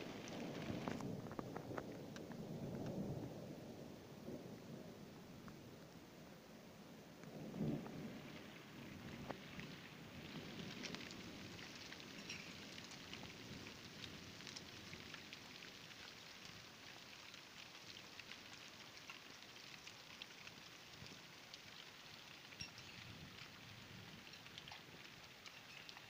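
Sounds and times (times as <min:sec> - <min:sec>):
light rain falling: 0:00.0 - 0:26.0.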